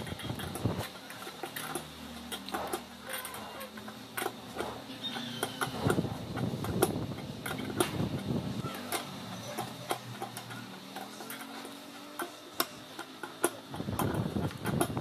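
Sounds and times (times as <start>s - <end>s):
wrenches clicking on nuts: 0.0s - 15.0s.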